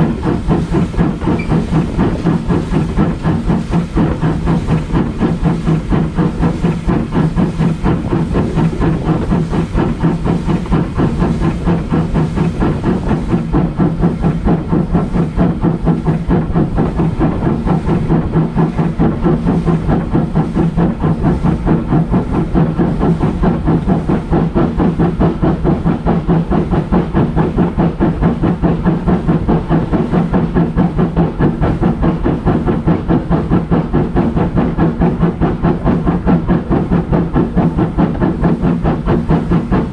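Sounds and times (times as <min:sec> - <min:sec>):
low hum: 0:00.0 - 0:39.9
steam locomotive exhaust beating: 0:00.0 - 0:39.9.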